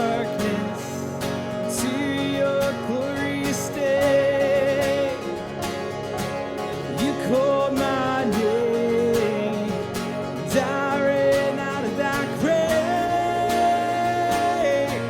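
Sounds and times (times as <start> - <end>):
guitars: 0.0 - 15.0.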